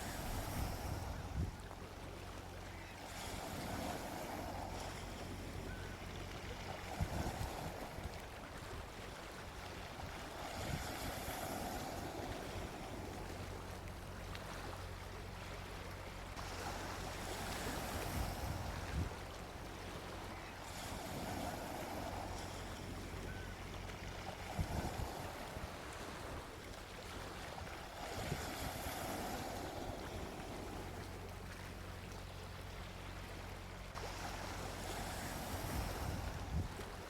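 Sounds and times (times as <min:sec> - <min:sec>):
sea waves washing onto beach: 0:00.0 - 0:37.0.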